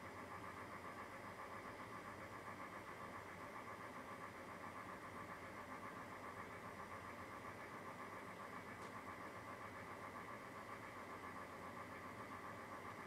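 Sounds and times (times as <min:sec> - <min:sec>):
faint hum and hiss: 0:00.0 - 0:13.0.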